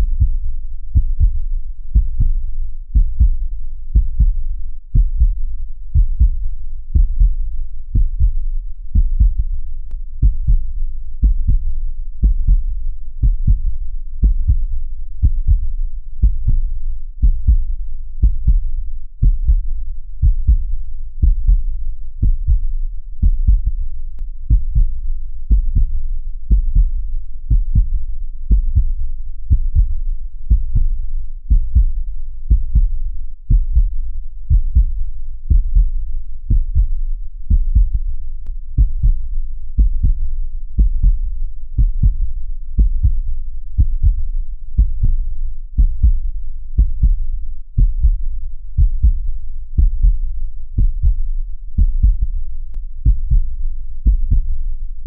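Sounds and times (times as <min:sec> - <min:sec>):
heartbeat thumps: 0:00.0 - 0:55.0.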